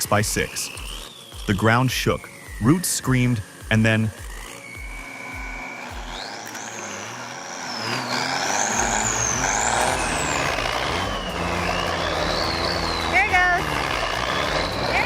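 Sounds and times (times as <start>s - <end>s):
high-pitched gliding squeal: 0.0s - 15.0s.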